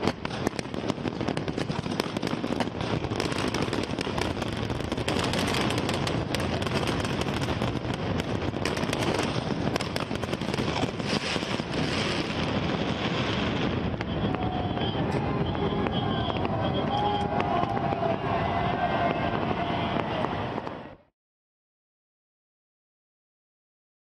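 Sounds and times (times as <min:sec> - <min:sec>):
fireworks popping and crackling: 0:00.0 - 0:21.0.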